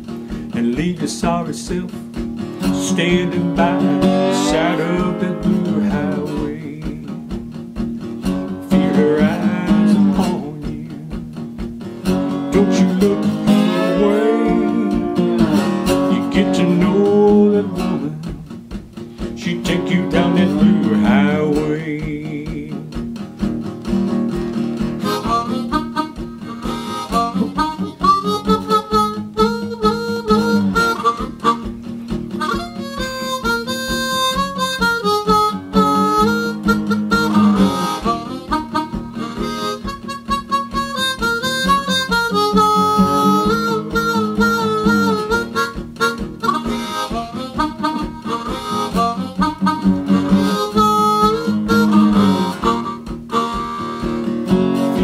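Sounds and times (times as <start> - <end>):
strummed acoustic guitar: 0.0 - 55.0
blues harmonica solo: 1.2 - 22.6, 23.2 - 55.0.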